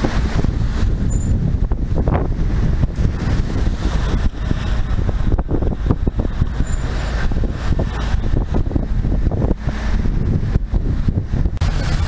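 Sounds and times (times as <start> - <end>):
boat engine rumble: 0.0 - 12.0
water rushing along hull: 0.0 - 12.0
wind buffeting microphone: 0.0 - 12.0.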